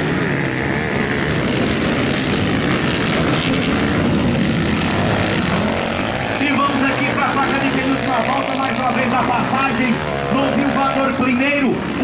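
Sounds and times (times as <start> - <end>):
motocross bikes racing past: 0.0 - 12.0.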